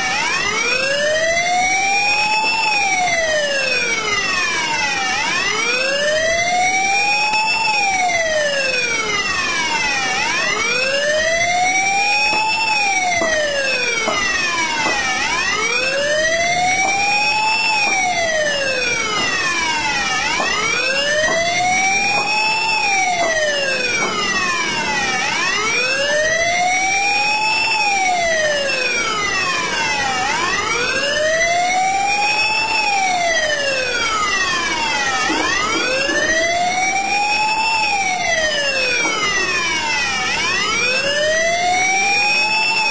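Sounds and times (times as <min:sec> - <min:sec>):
emergency siren wailing: 0:00.0 - 0:42.9
low street noise: 0:00.0 - 0:42.9.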